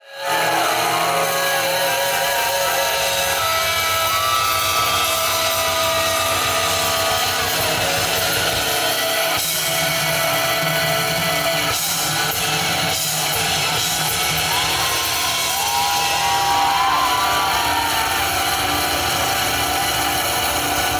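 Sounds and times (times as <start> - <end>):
electric guitar sustained notes: 0.0 - 20.9
rock band playing live: 0.1 - 20.9.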